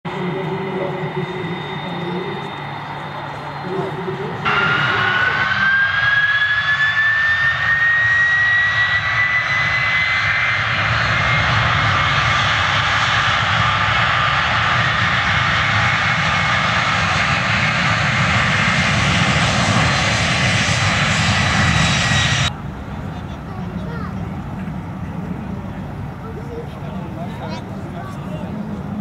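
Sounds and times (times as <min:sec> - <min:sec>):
jet engines at takeoff thrust: 0:00.1 - 0:29.0.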